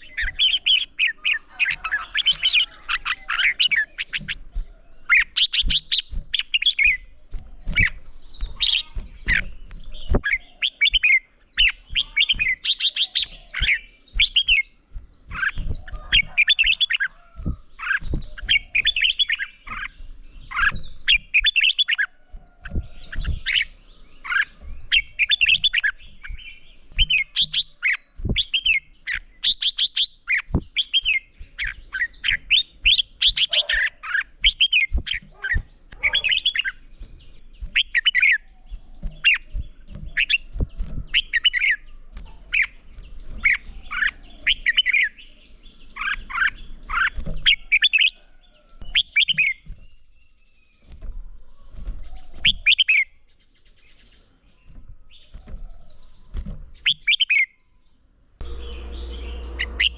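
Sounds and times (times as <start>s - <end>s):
birds warbling whistled song: 0.0s - 59.9s.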